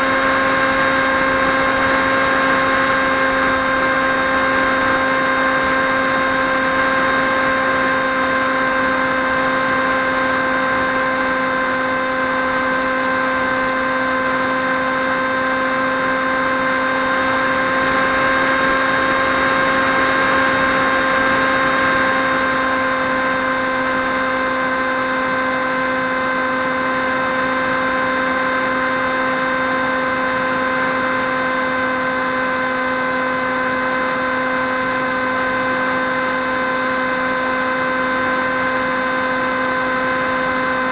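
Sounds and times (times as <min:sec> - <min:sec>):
model plane motor whine: 0:00.0 - 0:40.9.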